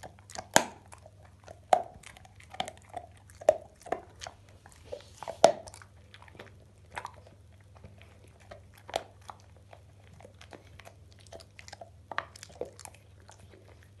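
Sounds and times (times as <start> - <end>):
dog crunching a bone: 0.0 - 14.0
dog gnawing: 0.0 - 14.0.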